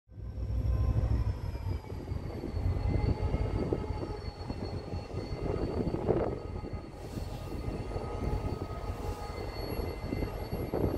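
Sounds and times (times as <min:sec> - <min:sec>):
diesel locomotive engine rumble: 0:00.1 - 0:10.9.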